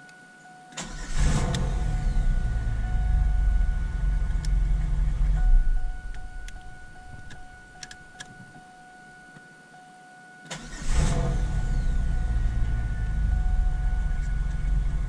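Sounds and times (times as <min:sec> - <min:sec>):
car engine starting and idling: 0:00.8 - 0:08.4, 0:10.5 - 0:15.0.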